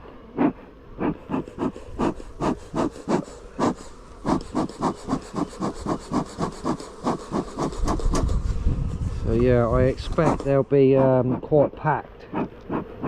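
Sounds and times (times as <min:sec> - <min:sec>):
back-and-forth scraping strokes: 0:00.4 - 0:13.0.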